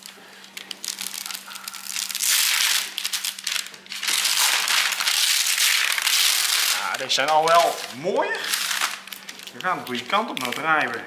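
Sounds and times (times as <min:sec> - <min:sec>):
baking paper crinkling: 0:00.0 - 0:11.0.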